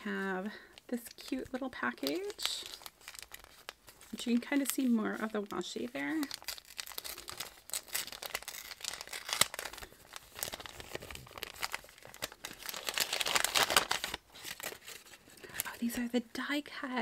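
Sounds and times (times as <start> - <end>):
paper packet crinkling: 0.0 - 16.1.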